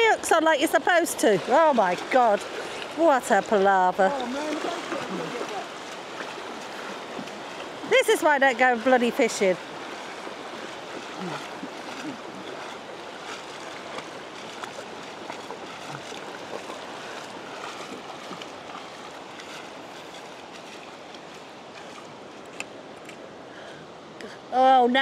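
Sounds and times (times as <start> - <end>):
feet wading through shallow water: 0.0 - 23.5.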